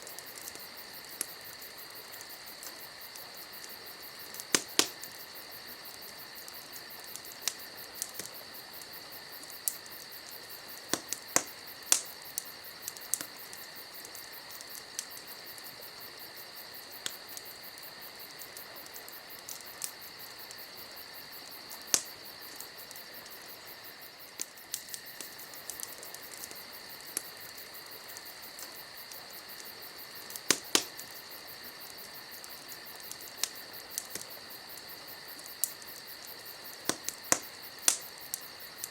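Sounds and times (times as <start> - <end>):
campfire crackling: 0.0 - 38.9
crickets chirring: 0.0 - 38.9.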